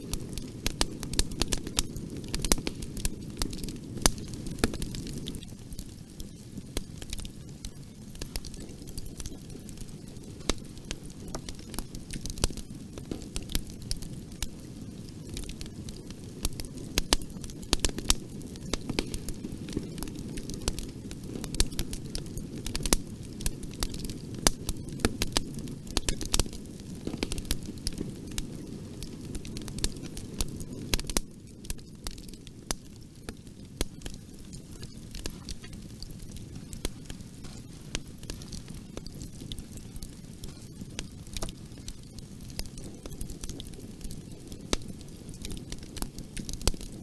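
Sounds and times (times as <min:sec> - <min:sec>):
low rumble of burning: 0:00.0 - 0:47.0
wood fire crackling and popping: 0:00.0 - 0:47.0.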